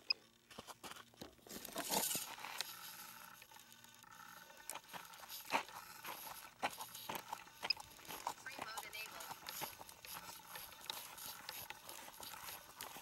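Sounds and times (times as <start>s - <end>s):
crunching and scraping on gravel: 0.6s - 3.6s, 4.5s - 13.0s.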